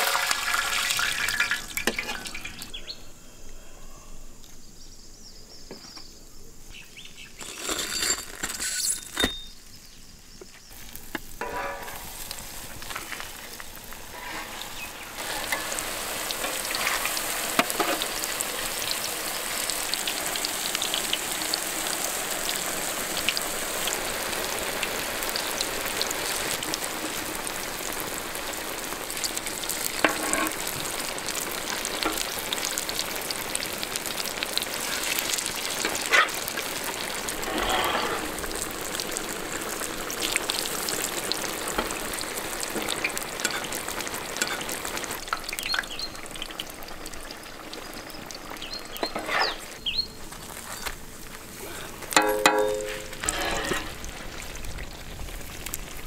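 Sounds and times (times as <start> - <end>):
oil sizzling and crackling: 0.0 - 3.0, 7.0 - 56.0.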